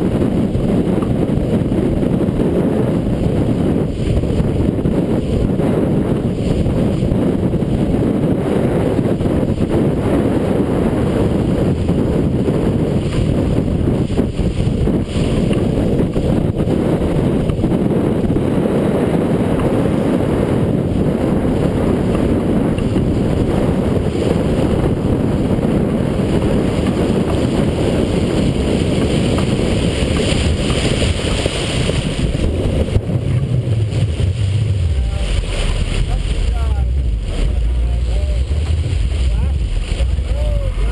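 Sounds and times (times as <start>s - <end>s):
hull washing through choppy water: 0.0s - 40.9s
wind buffeting microphone: 0.0s - 40.9s.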